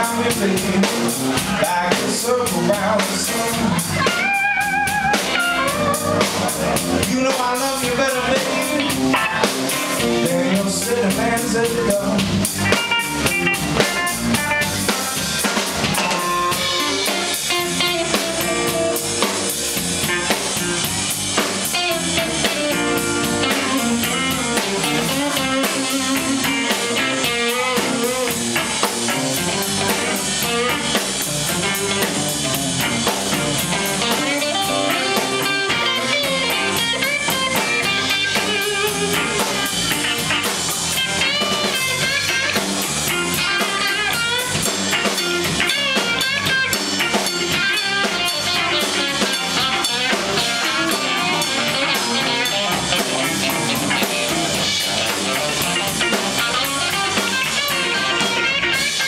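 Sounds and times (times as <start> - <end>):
bass guitar: 0.0 - 59.0
drum kit: 0.0 - 59.0
electric guitar lead with bent notes: 0.0 - 59.0.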